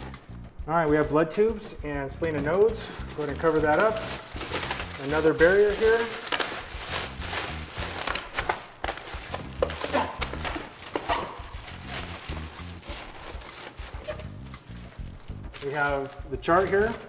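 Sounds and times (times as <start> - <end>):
soft background music: 0.0 - 17.0
plastic bag crinkling: 2.8 - 17.0.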